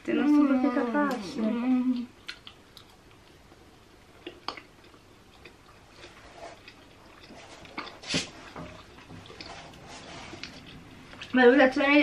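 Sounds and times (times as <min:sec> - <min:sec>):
quiet chewing: 0:01.1 - 0:12.0.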